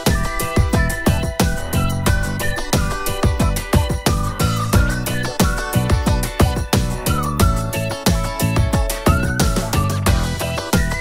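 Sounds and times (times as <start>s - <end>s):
music with fast drum beat: 0.0s - 11.0s.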